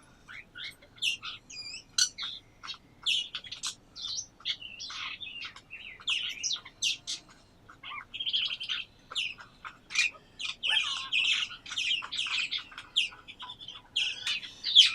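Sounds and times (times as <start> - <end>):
songbirds chirping and singing: 0.2 - 14.9.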